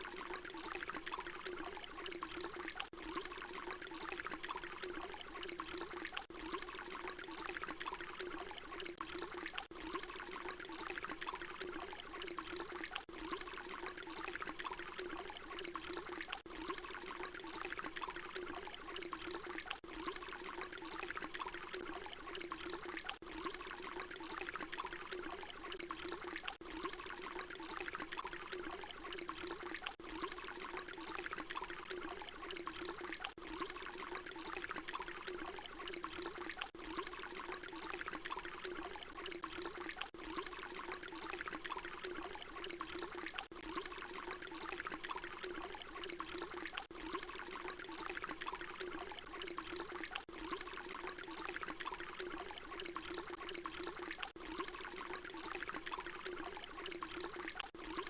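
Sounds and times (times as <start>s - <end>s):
water pouring: 0.0s - 58.0s.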